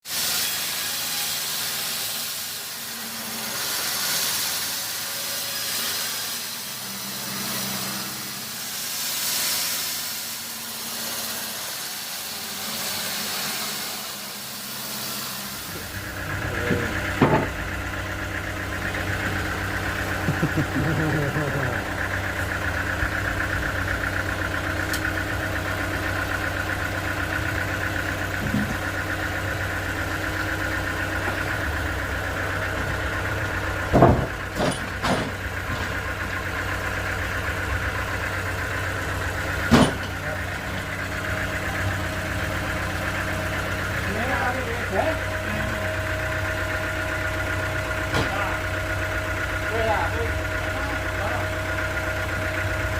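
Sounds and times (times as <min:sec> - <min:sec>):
engine running steadily: 0:00.1 - 0:52.9.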